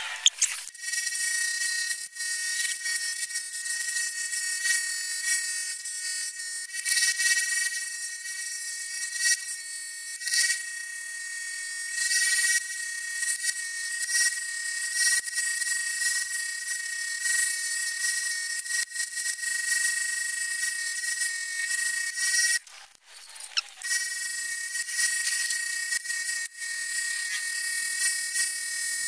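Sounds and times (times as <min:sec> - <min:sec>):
scroll saw whining: 0:00.0 - 0:29.0.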